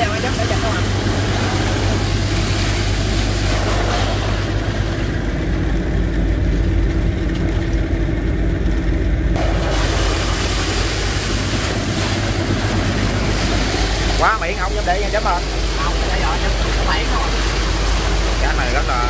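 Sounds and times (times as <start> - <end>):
pump engine droning: 0.0 - 19.0.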